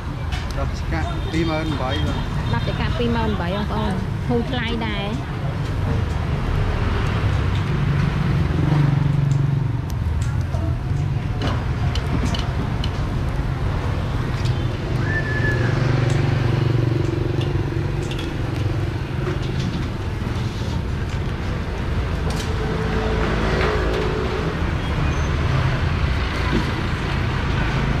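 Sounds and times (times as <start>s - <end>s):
motorbikes and cars passing: 0.0s - 28.0s.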